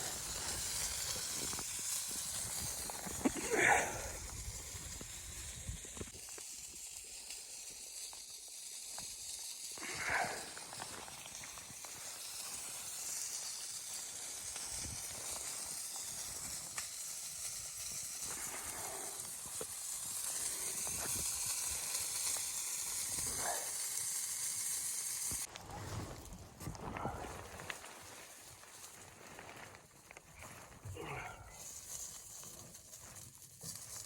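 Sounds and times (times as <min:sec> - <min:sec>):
steady high-pitched hiss: 0:00.0 - 0:34.0.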